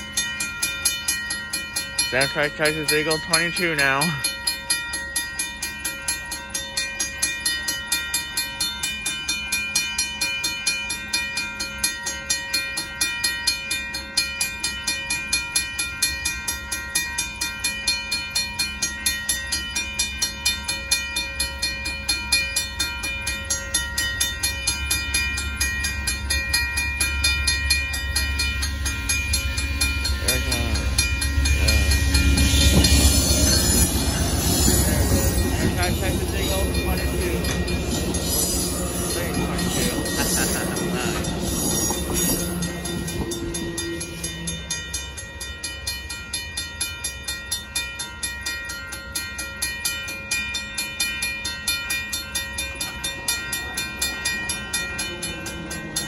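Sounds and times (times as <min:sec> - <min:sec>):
train rumble: 0:00.0 - 0:50.4
railroad crossing bells ringing: 0:00.0 - 0:56.0.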